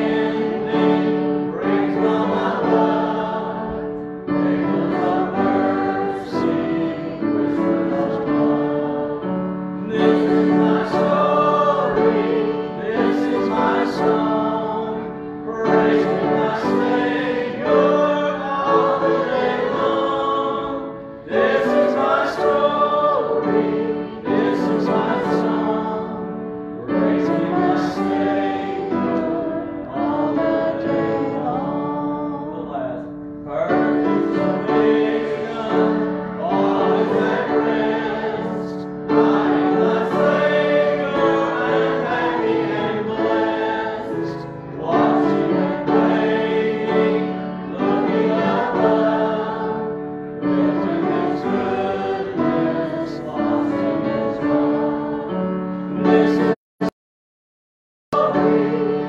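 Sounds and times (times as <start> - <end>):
group singing a hymn: 0.0 - 56.6, 58.2 - 59.0.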